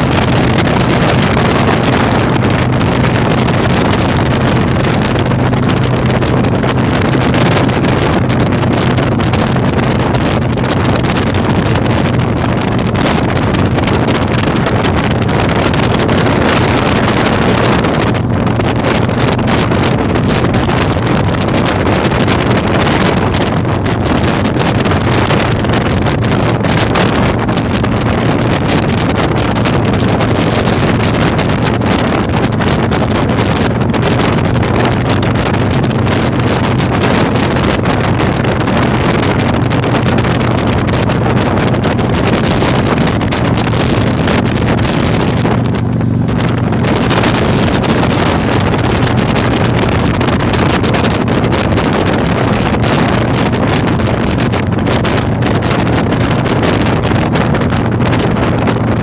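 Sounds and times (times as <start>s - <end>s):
motorcycle engine cruising: 0.0s - 59.0s
wind buffeting microphone: 0.0s - 59.0s.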